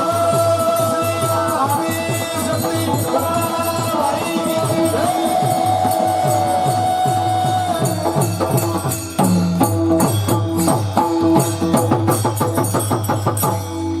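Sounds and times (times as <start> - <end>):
hand cymbals jingling: 0.0 - 14.0.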